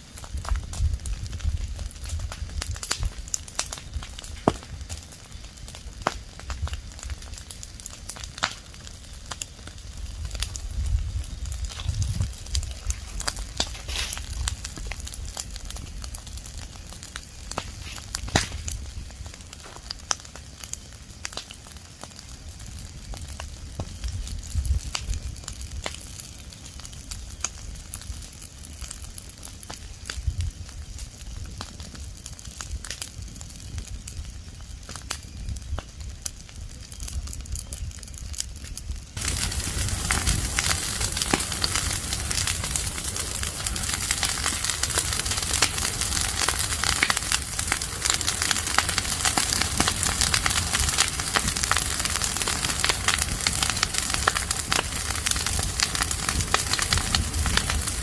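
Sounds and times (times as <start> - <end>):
fire crackling and popping: 0.0 - 58.0
steady hiss of fire: 0.0 - 58.0.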